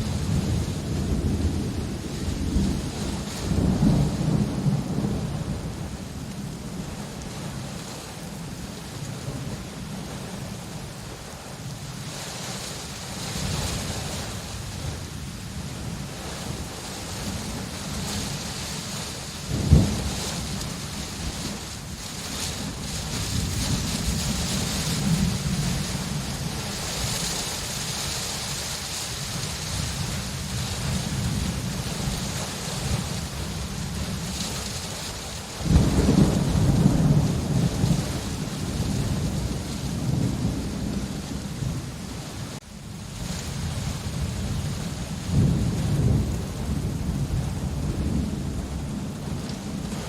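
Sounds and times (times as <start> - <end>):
thunder rumbling: 0.0 - 7.2, 13.4 - 50.0
steady rain falling: 0.0 - 50.0.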